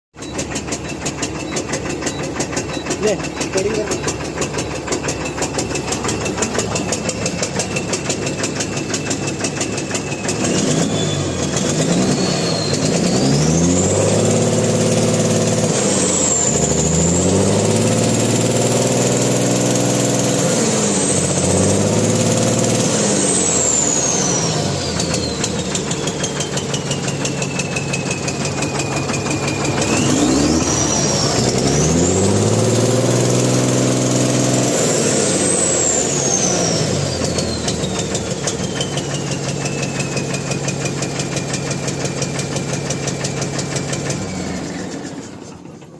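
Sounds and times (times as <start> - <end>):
truck diesel engine revving: 0.2 - 45.8
high engine whistle: 3.8 - 45.2.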